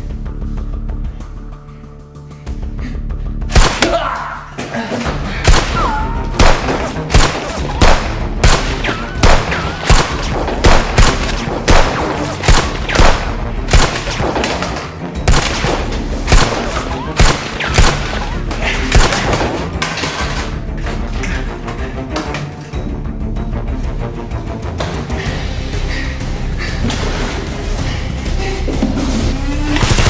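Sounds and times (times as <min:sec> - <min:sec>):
background music: 0:00.0 - 0:30.0.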